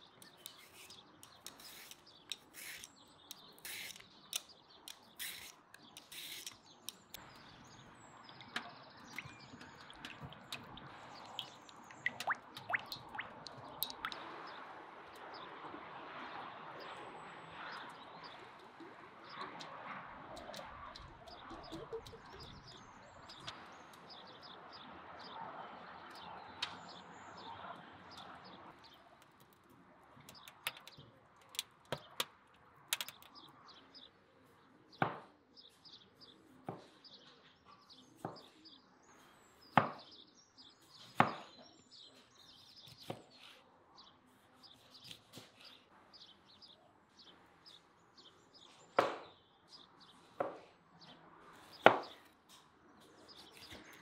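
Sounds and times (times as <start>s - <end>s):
small birds chirping: 0.0s - 15.6s, 16.8s - 54.0s.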